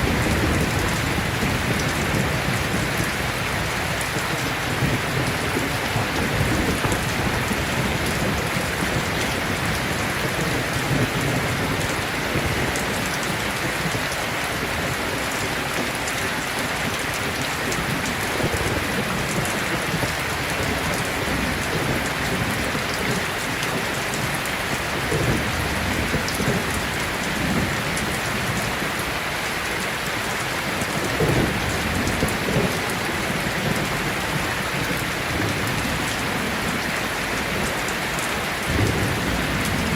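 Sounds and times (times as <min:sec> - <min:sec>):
thunder rumbling: 0:00.0 - 0:14.0, 0:16.6 - 0:29.0, 0:30.8 - 0:39.9
heavy rain pouring: 0:00.0 - 0:39.9.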